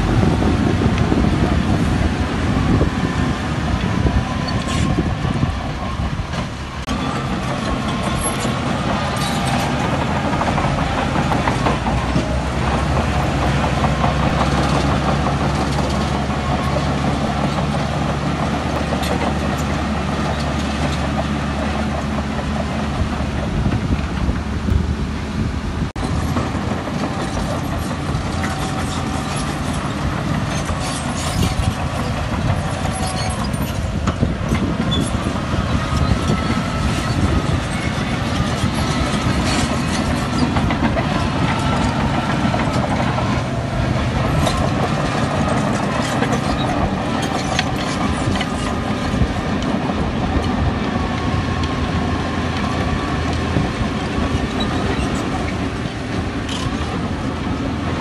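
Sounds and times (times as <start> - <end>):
steel tracks clanking and squealing: 0.0 - 24.6, 26.0 - 58.0
bulldozer diesel engine: 0.0 - 58.0.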